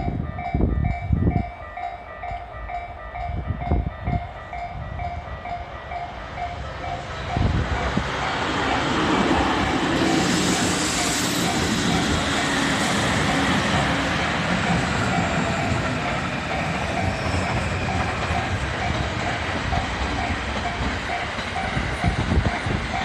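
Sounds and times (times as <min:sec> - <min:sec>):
crossing warning bell ringing: 0:00.0 - 0:23.0
train wheels clattering on rails: 0:00.0 - 0:23.0.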